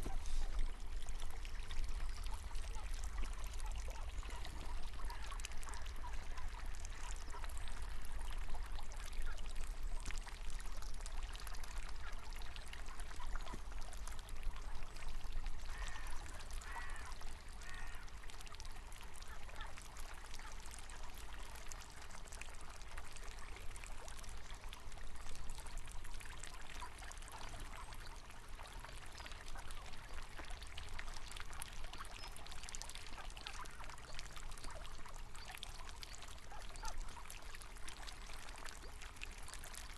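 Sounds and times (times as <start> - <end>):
river water trickling: 0.0 - 39.9.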